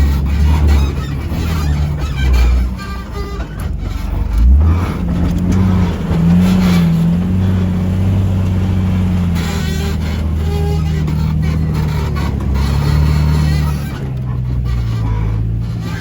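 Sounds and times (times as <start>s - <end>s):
vehicle engine running at low revs: 0.0s - 16.0s.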